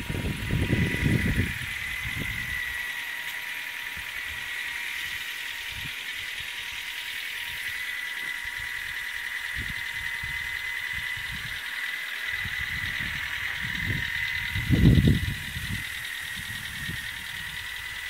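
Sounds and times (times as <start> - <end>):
car engine idling: 0.0 - 18.0
thin high whine: 0.0 - 18.0.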